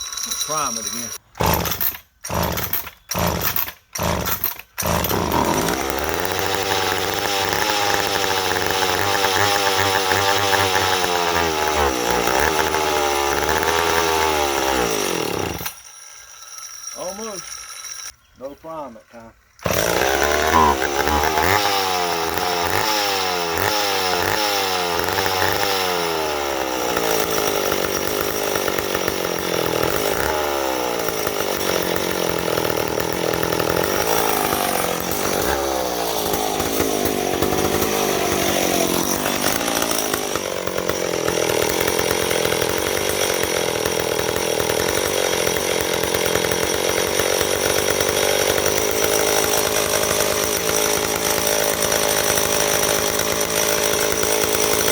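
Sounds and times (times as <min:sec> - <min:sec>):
chainsaw engine running: 0:00.4 - 0:15.8, 0:19.6 - 0:54.9.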